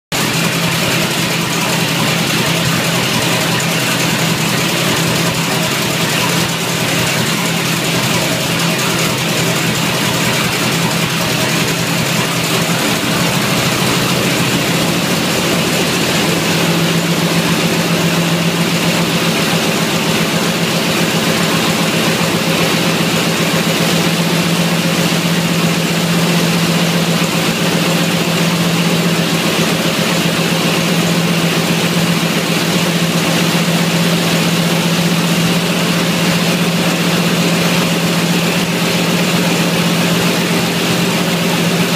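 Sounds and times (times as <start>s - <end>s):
radial aircraft engine running: 0.1s - 41.9s.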